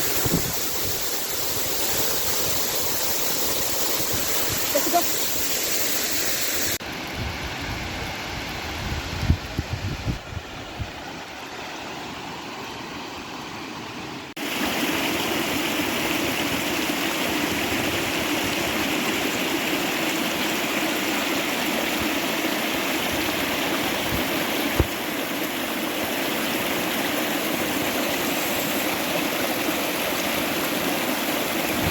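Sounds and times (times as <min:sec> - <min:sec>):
rushing stream water: 0:00.0 - 0:31.9.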